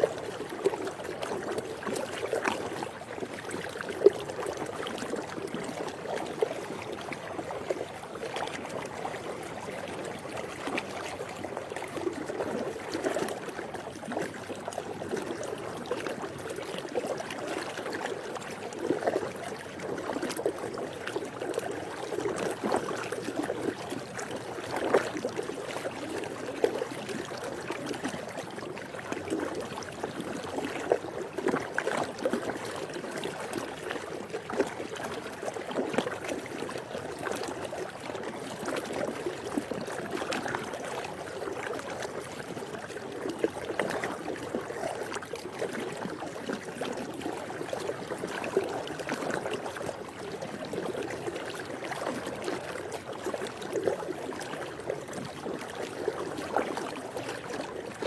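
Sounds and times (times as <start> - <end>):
pool water trickling and splashing: 0.0 - 58.0.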